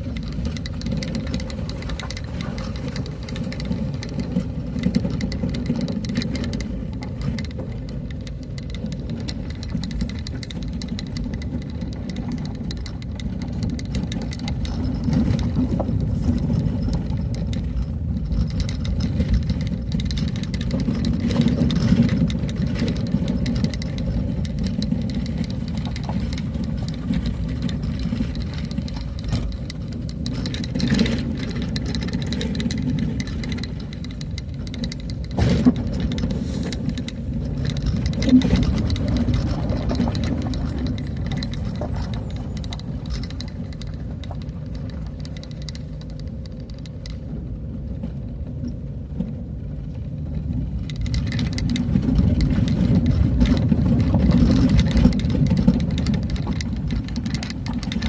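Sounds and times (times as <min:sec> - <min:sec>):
vehicle engine and road rumble: 0:00.0 - 0:58.0.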